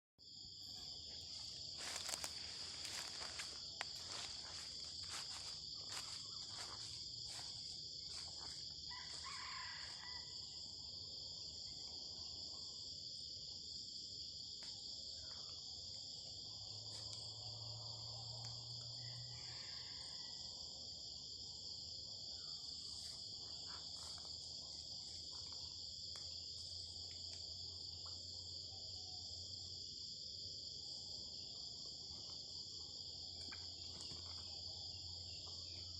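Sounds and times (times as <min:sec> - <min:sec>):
high-pitched insect chorus: 0:00.2 - 0:35.9.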